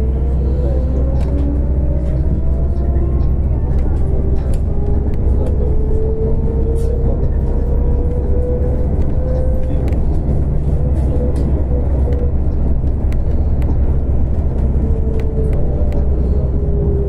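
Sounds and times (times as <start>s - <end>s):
trolleybus running gear rumble: 0.0s - 17.0s.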